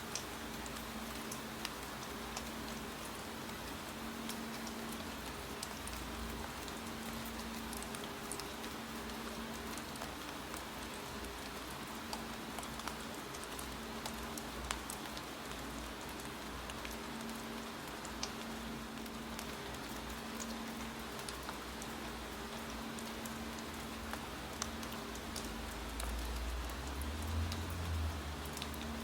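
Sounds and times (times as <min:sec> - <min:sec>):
steady rainfall: 0:00.0 - 0:29.0.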